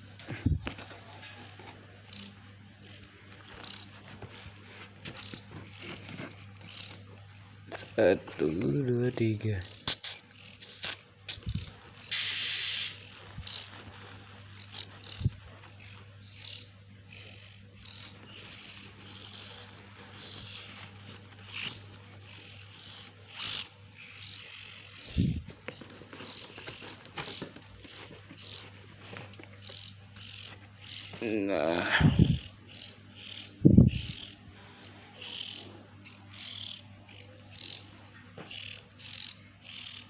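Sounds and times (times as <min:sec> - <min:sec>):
bird chicks chirping: 0:00.0 - 0:40.0.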